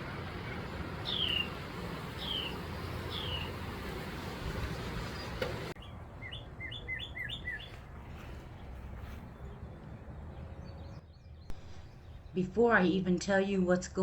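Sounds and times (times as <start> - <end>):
songbird chirping: 0.0 - 13.6.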